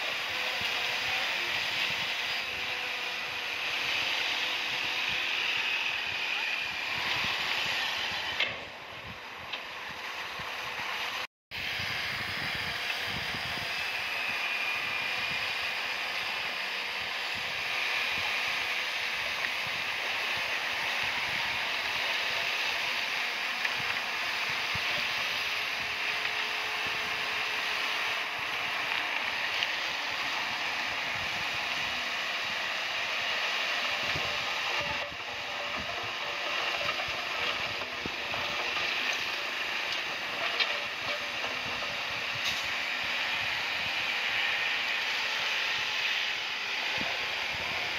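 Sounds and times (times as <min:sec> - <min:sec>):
clatter of bulldozer tracks: 0:00.0 - 0:11.3, 0:12.2 - 0:47.9
bulldozer engine running: 0:00.0 - 0:47.9.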